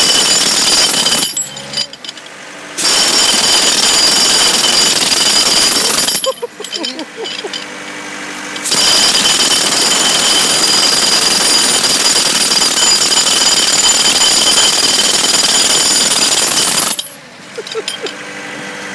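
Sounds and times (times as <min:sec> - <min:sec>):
jackhammer breaking concrete: 0:00.0 - 0:02.2, 0:02.8 - 0:07.6, 0:08.6 - 0:18.1.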